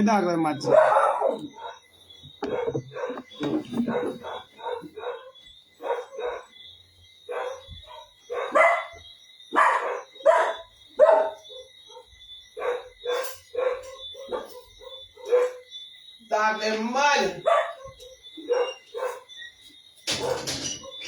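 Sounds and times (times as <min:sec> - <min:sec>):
dogs barking: 0:00.5 - 0:15.8, 0:17.3 - 0:21.0.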